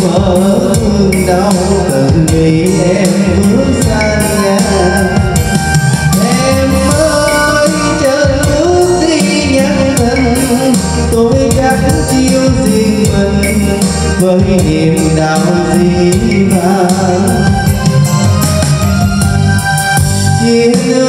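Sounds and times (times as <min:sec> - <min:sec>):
karaoke ballad backing music: 0:00.0 - 0:21.0.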